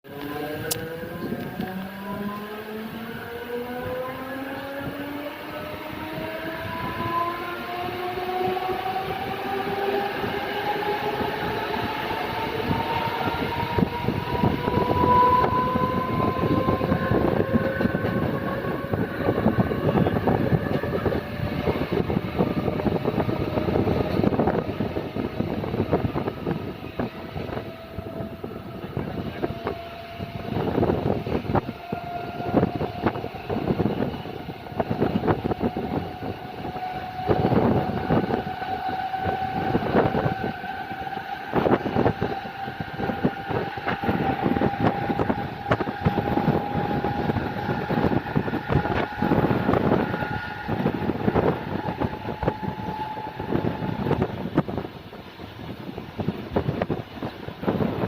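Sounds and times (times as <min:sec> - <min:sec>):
train traction motors whining: 0:00.1 - 0:58.0.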